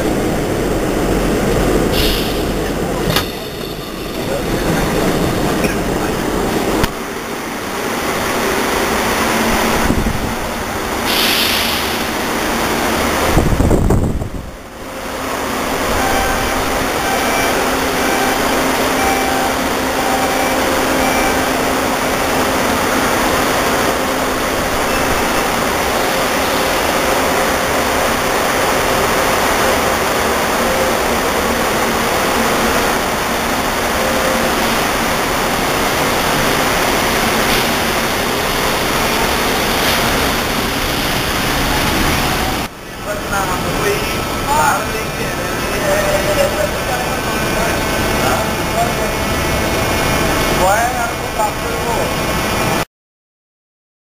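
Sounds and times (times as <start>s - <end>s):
monorail train rushing hiss: 0.0s - 52.8s.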